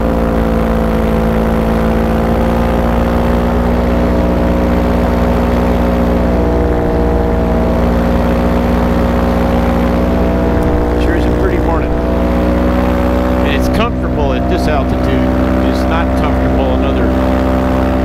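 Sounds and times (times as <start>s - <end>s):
paramotor engine and propeller: 0.0s - 18.0s.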